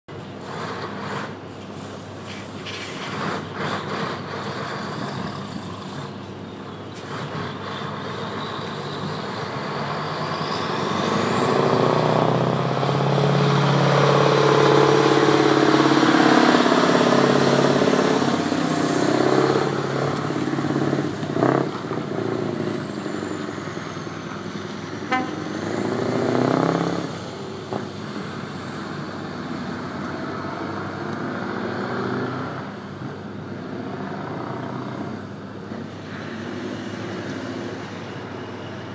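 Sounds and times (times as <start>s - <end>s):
diesel truck engine running: 0.1s - 37.3s.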